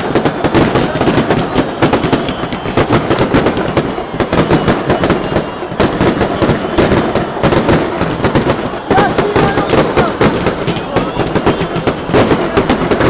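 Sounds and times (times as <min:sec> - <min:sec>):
firecrackers crackling: 0:00.0 - 0:13.0
loud firecracker bangs: 0:00.0 - 0:13.0.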